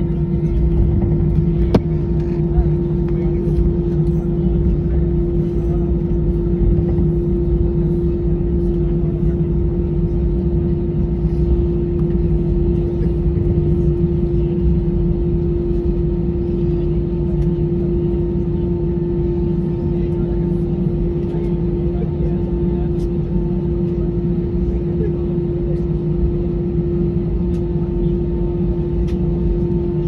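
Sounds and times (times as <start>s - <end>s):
jet engines idling: 0.0s - 30.0s.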